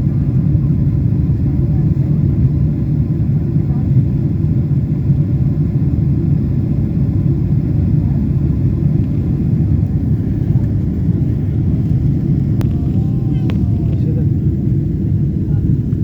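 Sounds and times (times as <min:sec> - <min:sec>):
jet airliner cabin rumble: 0:00.0 - 0:16.0.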